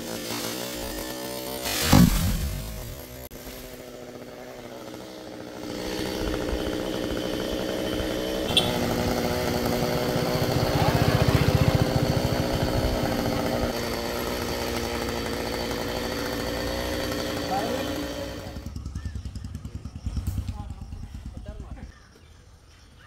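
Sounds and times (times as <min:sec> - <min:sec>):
chainsaw running: 0:00.0 - 0:22.0.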